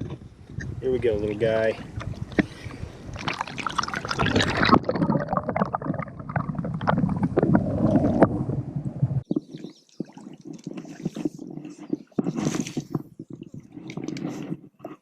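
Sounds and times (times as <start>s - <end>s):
water splashing and gurgling: 0.0s - 14.8s.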